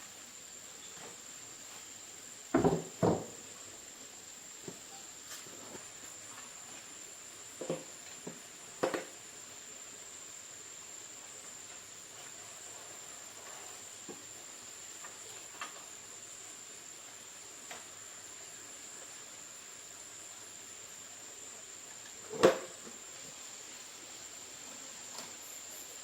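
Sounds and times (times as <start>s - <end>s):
faint high-pitched whine: 0.0s - 26.0s.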